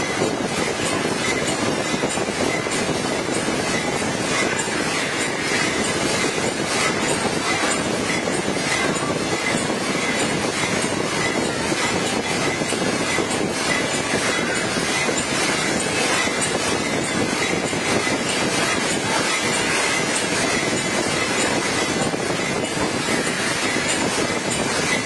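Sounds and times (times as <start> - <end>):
machine clattering and rattling: 0.0 - 25.0.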